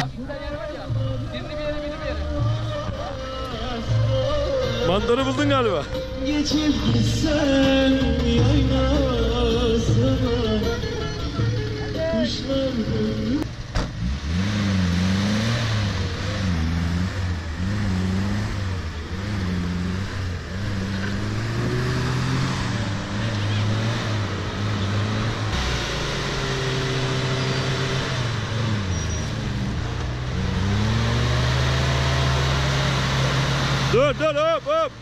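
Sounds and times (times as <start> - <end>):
engine revving: 1.0 - 35.0.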